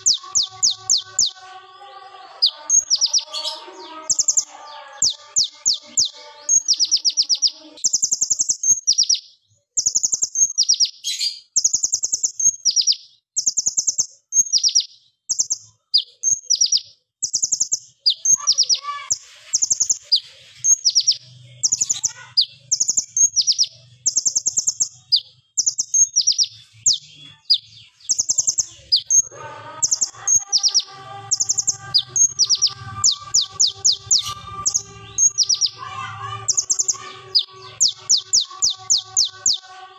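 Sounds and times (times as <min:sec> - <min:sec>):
bird singing rapid trills: 0:00.0 - 0:39.9.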